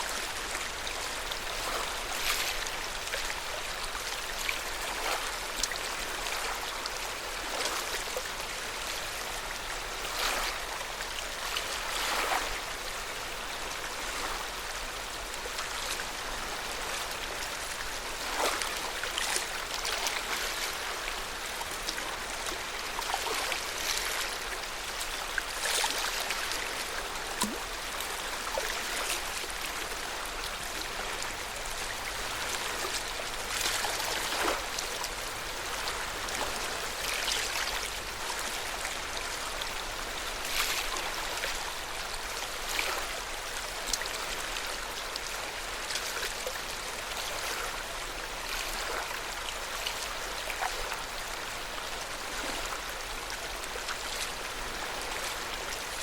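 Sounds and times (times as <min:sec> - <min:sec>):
lake water lapping at shore: 0:00.0 - 0:09.0, 0:09.8 - 0:10.7, 0:11.3 - 0:12.6, 0:15.8 - 0:51.0
small water splashes: 0:00.0 - 0:09.2, 0:10.0 - 0:10.7, 0:11.4 - 0:12.7, 0:15.2 - 0:51.3.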